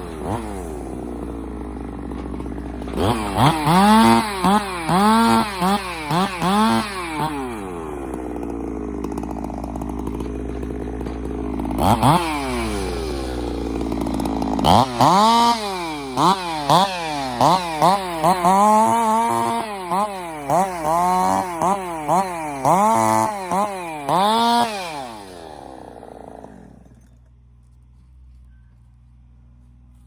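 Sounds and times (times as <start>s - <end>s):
chainsaw revving: 0.0s - 27.3s.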